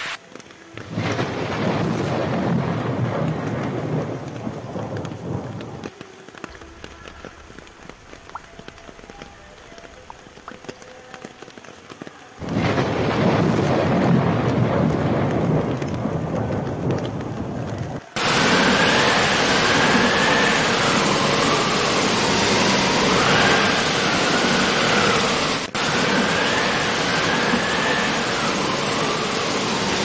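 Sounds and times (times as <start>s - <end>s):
heavy rain: 0.0s - 30.0s
thunder rumbling: 0.7s - 11.1s, 12.4s - 30.0s.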